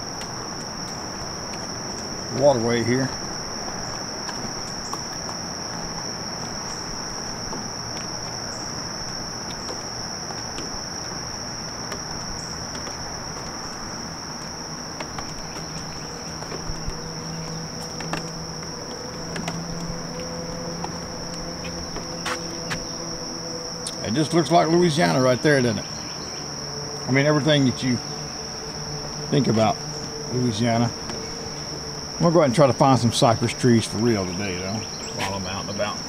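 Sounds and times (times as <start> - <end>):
insects chorus: 0.0 - 36.0
low noise: 0.0 - 36.0.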